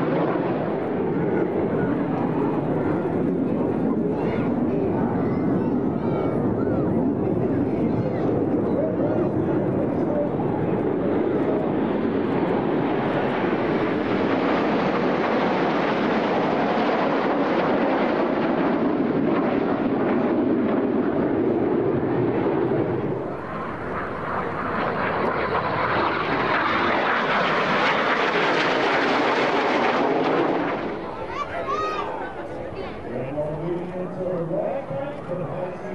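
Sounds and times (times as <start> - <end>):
jet aircraft flying past: 0.0 - 35.9.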